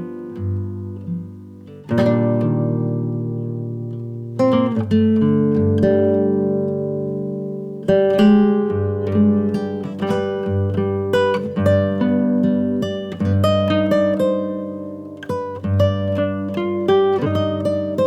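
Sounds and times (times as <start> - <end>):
acoustic guitar picking: 0.0 - 18.0.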